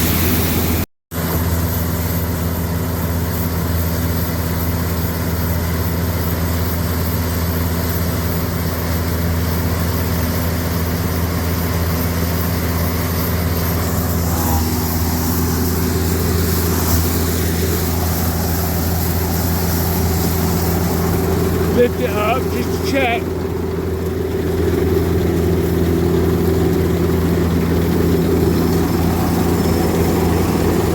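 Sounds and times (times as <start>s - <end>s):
diesel engine running steadily: 0.0s - 30.9s.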